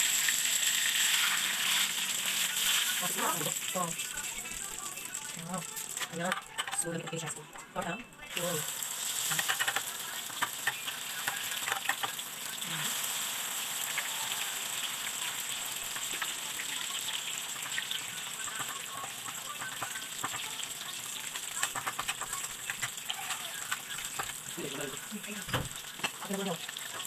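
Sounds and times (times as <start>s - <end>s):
oil sizzling in a frying pan: 0.0s - 6.8s, 8.2s - 27.0s
pops and crackles of frying: 0.0s - 27.0s.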